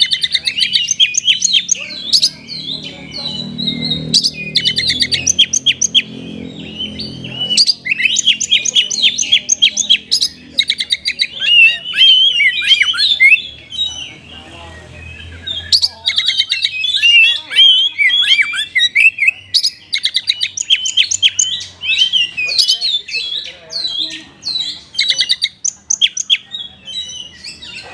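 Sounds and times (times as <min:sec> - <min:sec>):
bird singing chirps and trills: 0:00.0 - 0:27.9.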